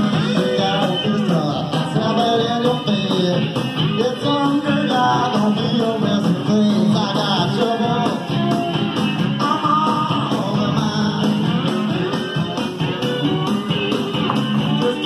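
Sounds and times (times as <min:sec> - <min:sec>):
rock and roll band on loudspeakers: 0:00.0 - 0:15.0.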